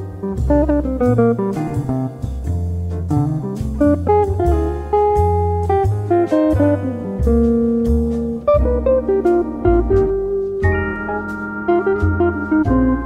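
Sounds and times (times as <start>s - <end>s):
bass line: 0.0s - 13.0s
plucked guitar melody: 0.0s - 13.0s.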